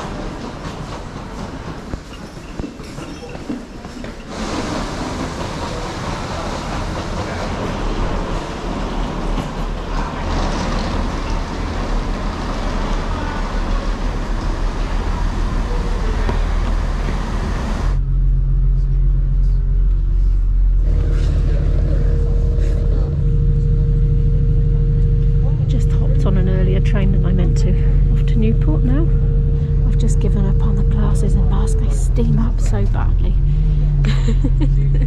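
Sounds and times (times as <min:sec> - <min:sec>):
railway station crowd noise: 0:00.0 - 0:35.0
train engine humming: 0:00.0 - 0:35.0.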